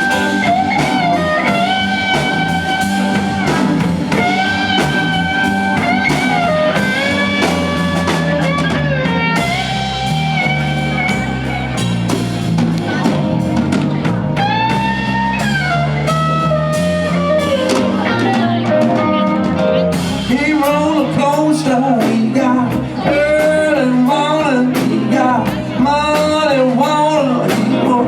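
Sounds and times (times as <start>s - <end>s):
blues-rock band playing: 0.0s - 28.0s
electric guitar: 0.0s - 28.0s.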